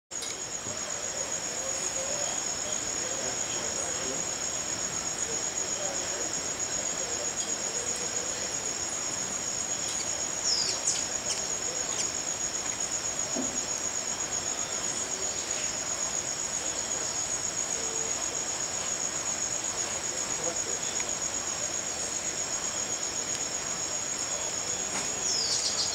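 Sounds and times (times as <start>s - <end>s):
insect chorus trilling: 0.2s - 25.9s.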